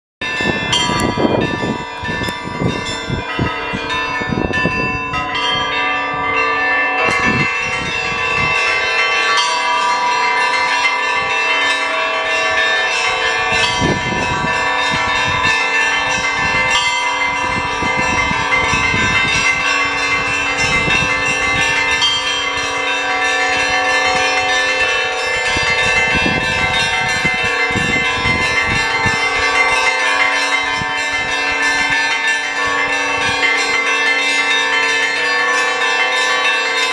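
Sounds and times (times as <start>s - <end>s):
deep big bell strokes: 0.2s - 33.9s
hum of larger bells: 0.2s - 36.9s.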